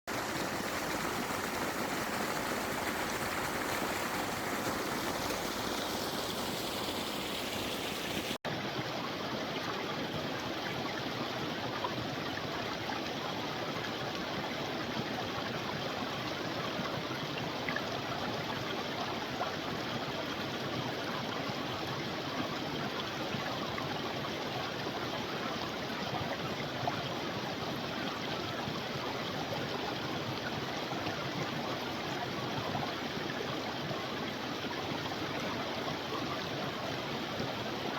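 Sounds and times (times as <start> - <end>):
creek water running: 0.1 - 37.9.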